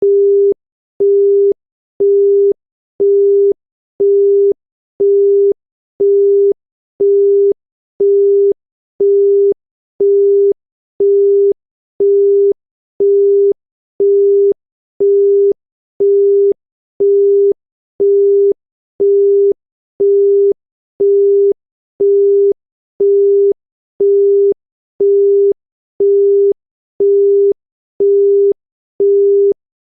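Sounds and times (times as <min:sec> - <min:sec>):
telephone busy tone beeping: 0:00.0 - 0:29.5.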